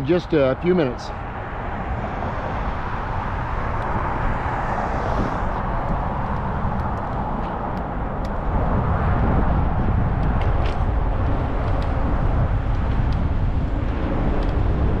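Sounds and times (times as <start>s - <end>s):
wind on microphone: 1.1s - 15.0s
bike tyres rolling on road: 1.2s - 15.0s.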